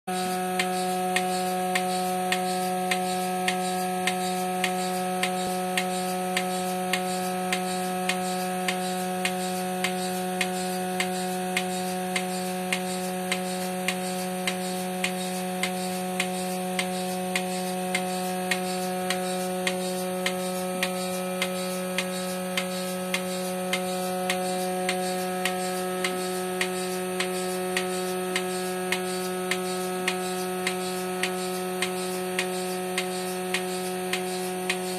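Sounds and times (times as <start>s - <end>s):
vacuum pump motor humming: 0.1s - 34.9s
pulsator clicking: 0.2s - 34.9s.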